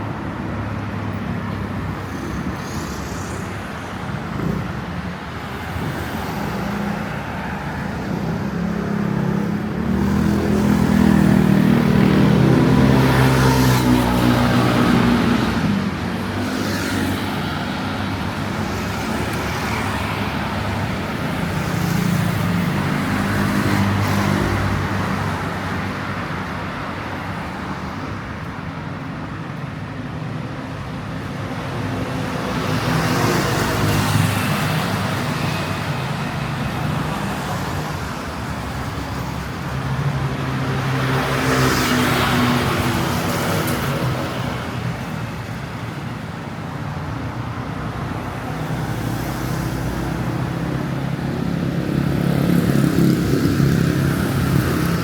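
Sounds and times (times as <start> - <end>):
cars passing on street: 0.0 - 55.0.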